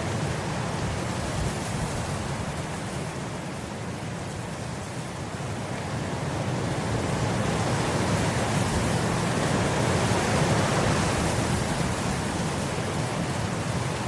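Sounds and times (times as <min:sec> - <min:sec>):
wind blowing across grass: 0:00.0 - 0:14.0.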